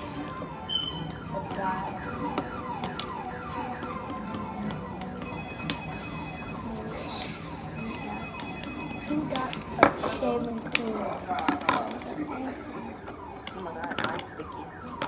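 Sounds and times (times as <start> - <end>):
electronic siren wail: 0.0 - 15.0.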